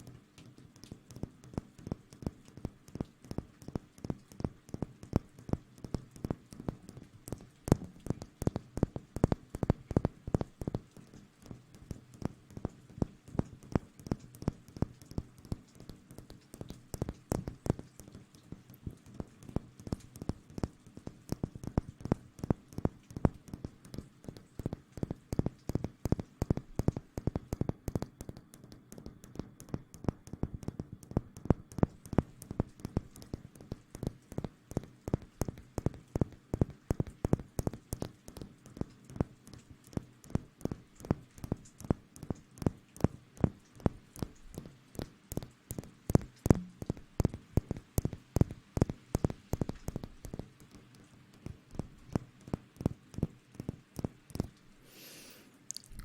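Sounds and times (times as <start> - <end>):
fingers tapping and scratching: 0.4 - 54.6.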